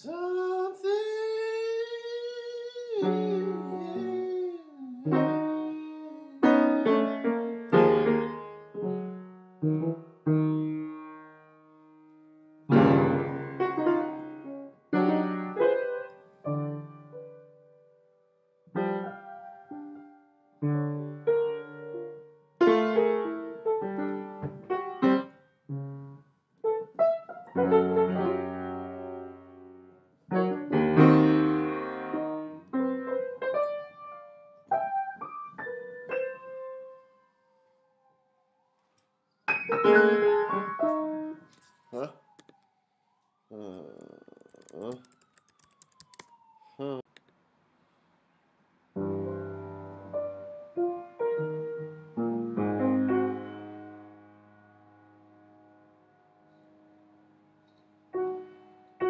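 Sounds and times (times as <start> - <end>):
slow piano chords and notes: 0.0 - 43.4, 49.0 - 59.0.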